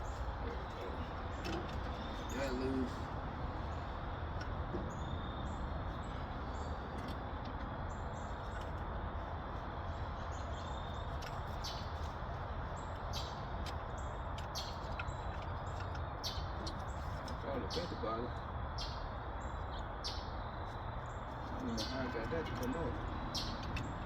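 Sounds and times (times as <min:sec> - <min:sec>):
outdoor background hiss and rumble: 0:00.0 - 0:24.0
small birds chirping: 0:00.0 - 0:24.0.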